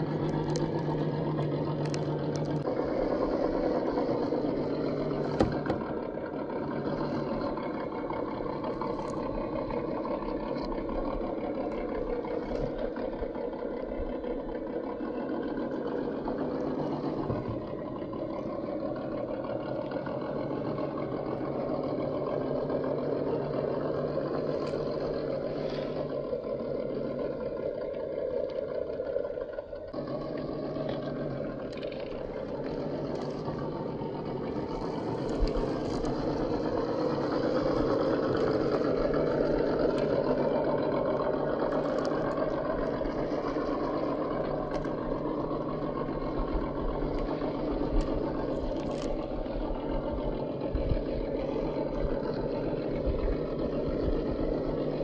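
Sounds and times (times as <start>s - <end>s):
rc truck motor droning: 0.0s - 55.0s.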